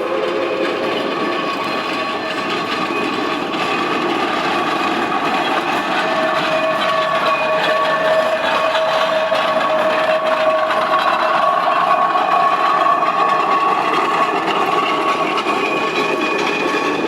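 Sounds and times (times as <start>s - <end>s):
steam locomotive chuffing and clatter: 0.0s - 17.0s.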